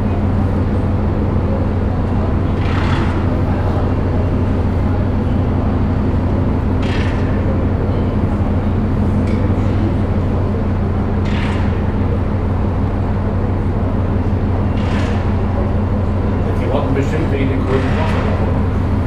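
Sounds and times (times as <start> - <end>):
ship machinery drone: 0.0 - 19.0.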